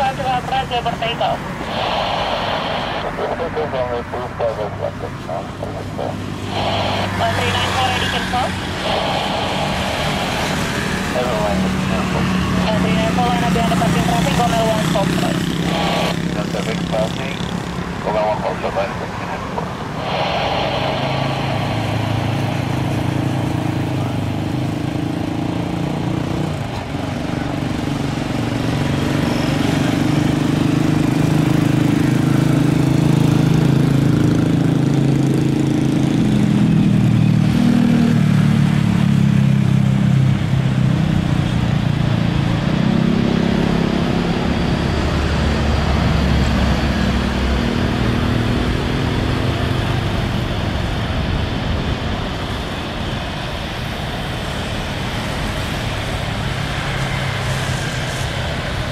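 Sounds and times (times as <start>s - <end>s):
jet engines rumbling: 0.0s - 58.9s.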